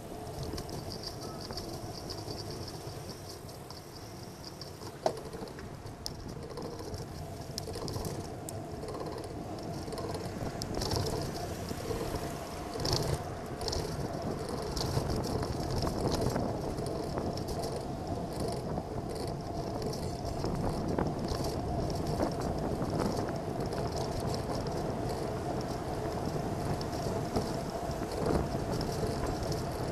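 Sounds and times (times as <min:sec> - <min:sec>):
bicycle rattles and clicks: 0:00.0 - 0:29.9
passing traffic: 0:00.0 - 0:29.9
wind and tyre rumble: 0:00.0 - 0:29.9.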